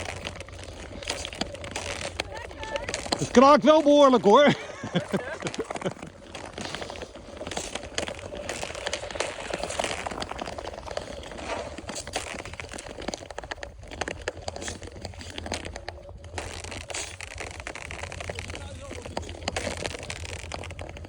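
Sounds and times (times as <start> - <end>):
skate blades scraping ice: 0.0 - 21.0
thin ice cracking: 0.0 - 21.0.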